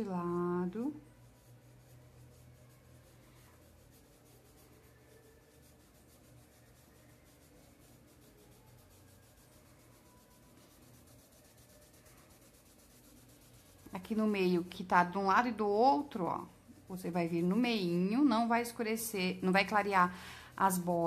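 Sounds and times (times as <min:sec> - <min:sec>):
low steady hum: 0:00.0 - 0:21.0
paintbrush rubbing on fabric: 0:00.0 - 0:21.0.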